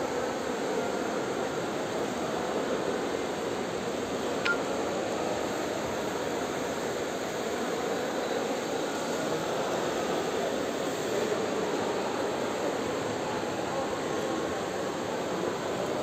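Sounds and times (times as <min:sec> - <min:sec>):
swimming pool hall rushing noise: 0:00.0 - 0:16.0.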